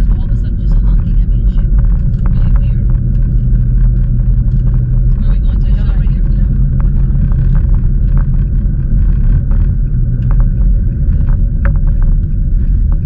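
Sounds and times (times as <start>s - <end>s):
car interior rumble: 0.0s - 13.0s
small clicks and rattles: 0.9s - 13.0s.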